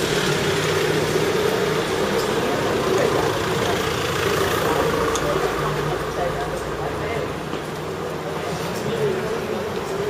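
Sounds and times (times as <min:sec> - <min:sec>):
vehicle engine running: 0:00.0 - 0:08.4
street noise: 0:00.0 - 0:10.0.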